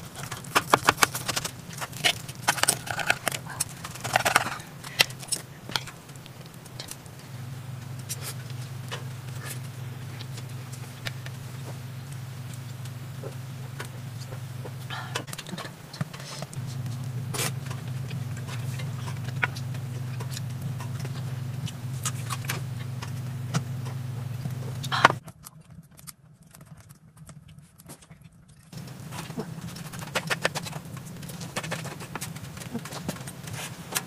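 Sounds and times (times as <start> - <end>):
low hum: 0.0 - 25.2, 28.8 - 34.0.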